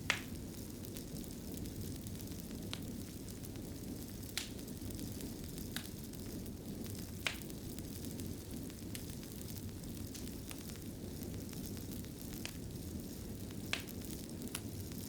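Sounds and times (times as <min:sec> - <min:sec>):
fire crackling pops: 0:00.0 - 0:15.0
low rumble of flames: 0:00.0 - 0:15.0.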